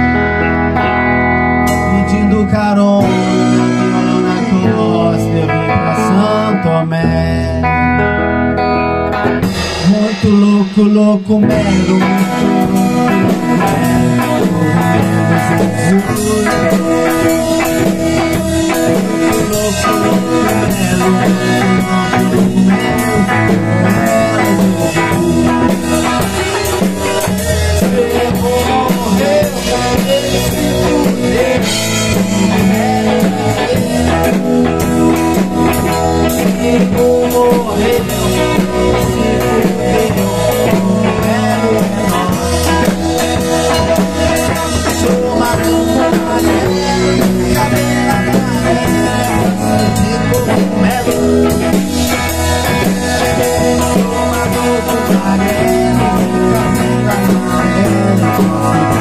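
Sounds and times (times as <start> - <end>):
electric guitar through amplifier: 0.0 - 59.0
rock band playing live: 0.0 - 59.0
drum kit with cymbals: 1.6 - 5.2, 9.2 - 59.0.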